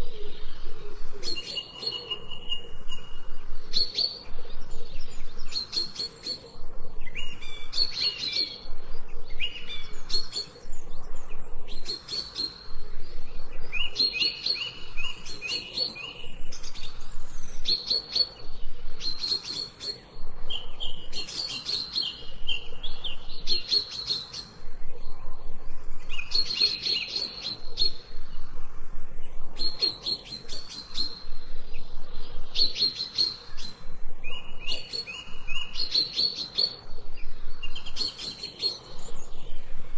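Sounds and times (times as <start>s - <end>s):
faint background hiss: 0.0s - 39.9s
songbird chirping: 0.0s - 39.9s.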